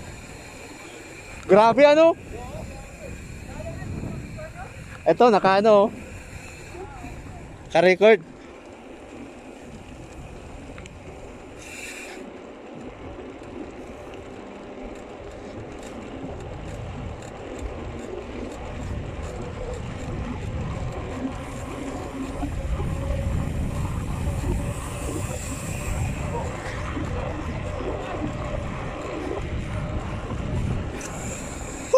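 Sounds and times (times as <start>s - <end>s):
wind buffeting microphone: 0.0s - 11.7s, 12.6s - 31.9s
bike tyres rolling on asphalt: 0.0s - 31.9s.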